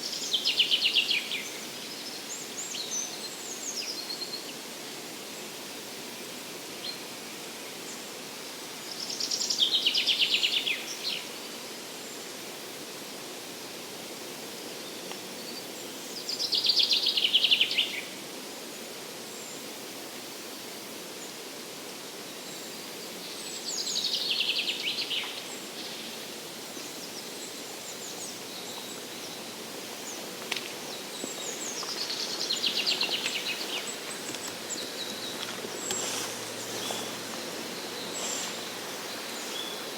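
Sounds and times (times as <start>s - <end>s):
steady forest hiss: 0.0s - 39.9s.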